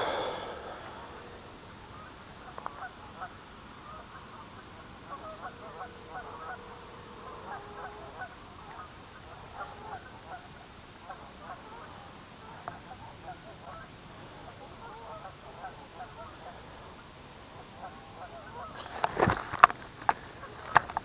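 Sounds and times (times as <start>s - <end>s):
steady background hiss: 0.0s - 21.0s
waterfowl honking and quacking: 1.9s - 19.1s.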